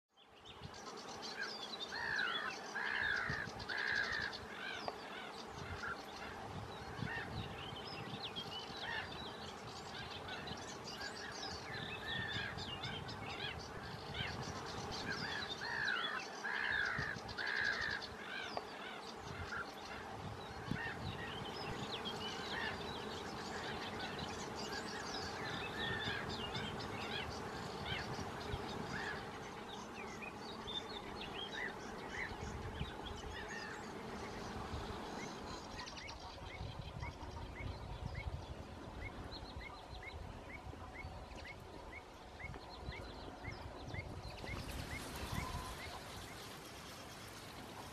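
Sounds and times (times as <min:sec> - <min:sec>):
steady low background noise: 0:00.2 - 0:47.9
birds chirping and calling: 0:00.6 - 0:47.9.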